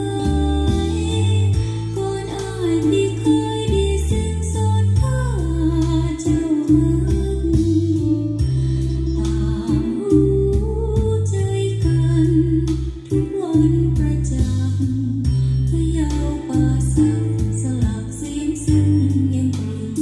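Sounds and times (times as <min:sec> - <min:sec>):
woman singing with plucked strings: 0:00.0 - 0:08.4, 0:09.1 - 0:20.0
steady bass line: 0:00.0 - 0:20.0.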